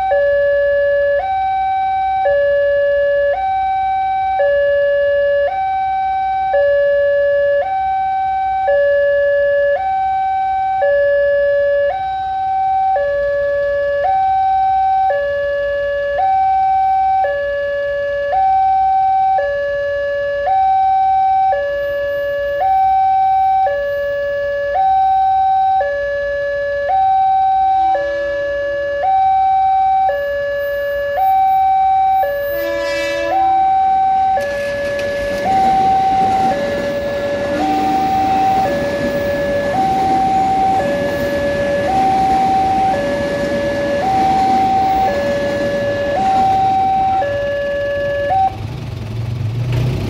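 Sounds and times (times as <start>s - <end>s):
level crossing two-tone alarm: 0.0s - 48.6s.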